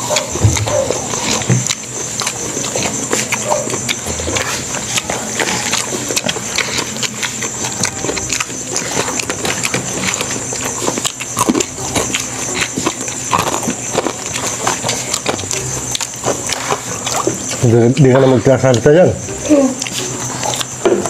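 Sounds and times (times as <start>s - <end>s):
chewing and wet mouth smacks: 0.0s - 18.9s, 19.8s - 20.8s.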